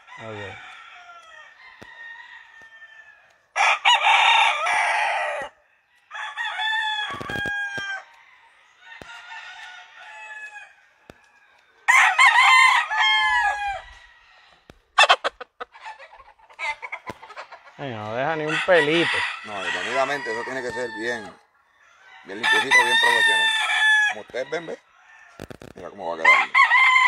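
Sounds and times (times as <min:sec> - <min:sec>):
roosters crowing: 0:00.0 - 0:27.0.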